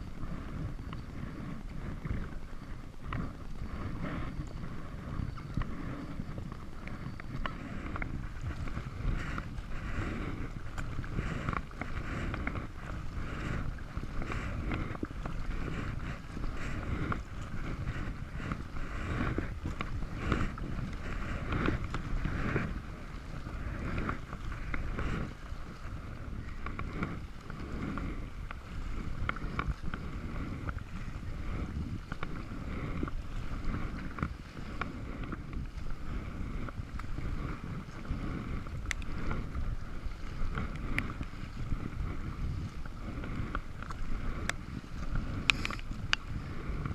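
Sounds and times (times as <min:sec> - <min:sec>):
kayak paddle splashing: 0:00.0 - 0:46.9
wind rumbling on microphone: 0:00.0 - 0:46.9.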